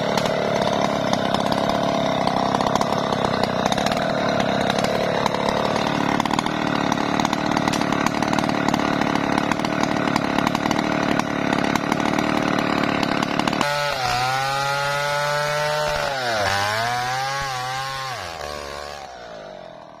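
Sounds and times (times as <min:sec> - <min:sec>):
chainsaw cutting log: 0:00.0 - 0:20.0
chainsaw revving: 0:00.0 - 0:20.0.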